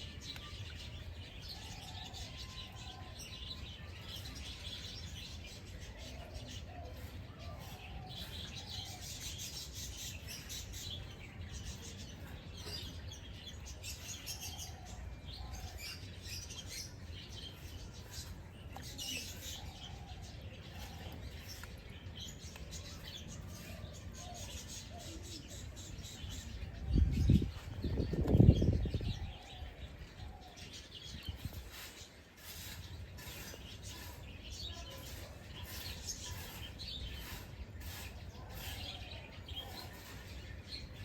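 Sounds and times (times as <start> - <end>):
birds chirping and twittering: 0.0 - 41.0.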